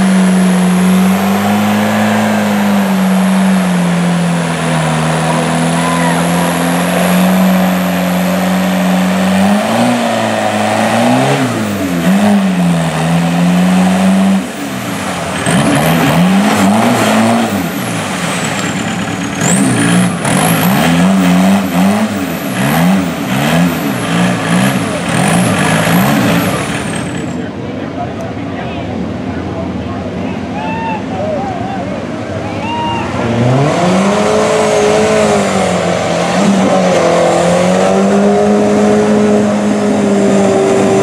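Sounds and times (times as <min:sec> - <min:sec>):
car engine revving: 0:00.0 - 0:27.5, 0:33.1 - 0:41.0
tires spinning in mud: 0:00.0 - 0:27.6, 0:32.0 - 0:41.0.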